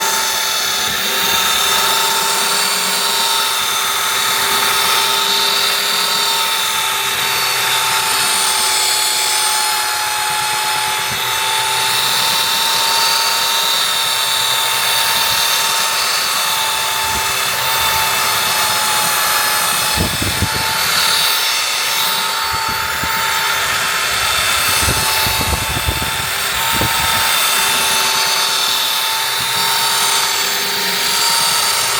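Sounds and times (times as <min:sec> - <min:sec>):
power sander whining: 0:00.0 - 0:31.9.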